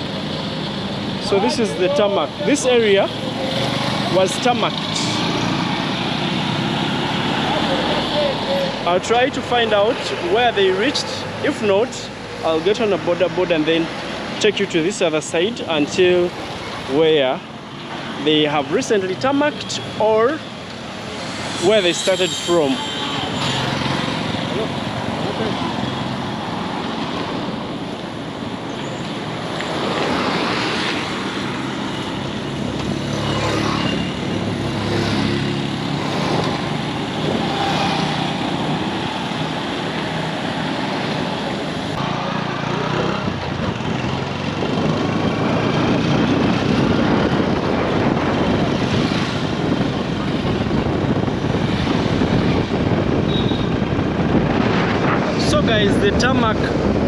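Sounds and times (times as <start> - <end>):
vehicle engine: 0.0 - 13.9, 17.8 - 57.0
street traffic: 0.0 - 57.0.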